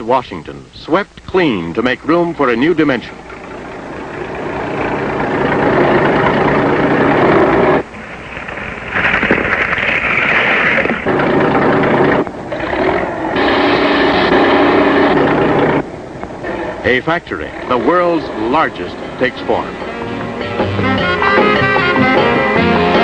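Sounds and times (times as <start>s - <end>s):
heavy machinery engines running: 1.9s - 23.0s.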